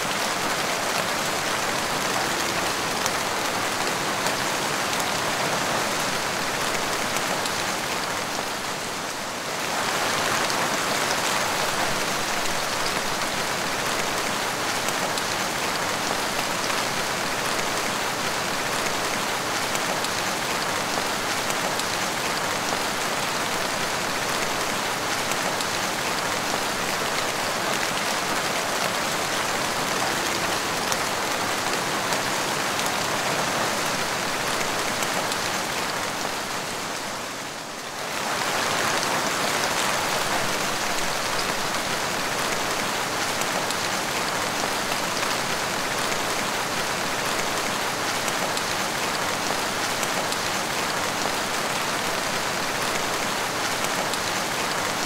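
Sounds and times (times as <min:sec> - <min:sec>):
rain falling on tiled floor: 0:00.0 - 0:55.0.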